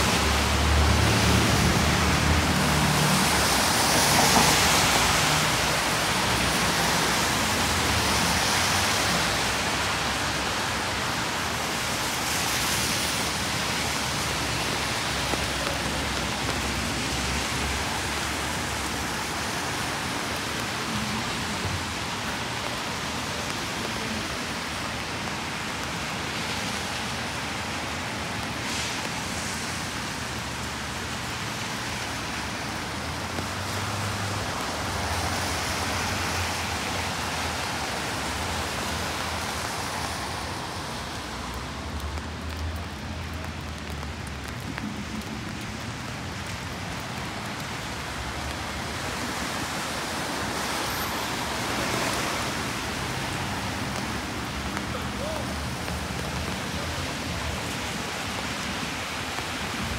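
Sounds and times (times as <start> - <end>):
low traffic rumble: 0.0 - 59.9
rain on street: 0.0 - 59.9
tyre hiss on wet road: 0.0 - 59.9.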